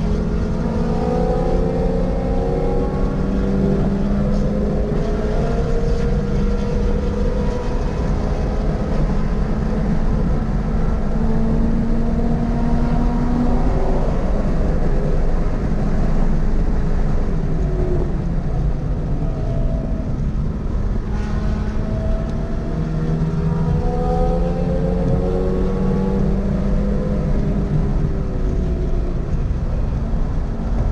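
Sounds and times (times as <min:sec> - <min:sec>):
car engine running hard: 0:00.0 - 0:30.9
road and wind noise: 0:00.0 - 0:30.9.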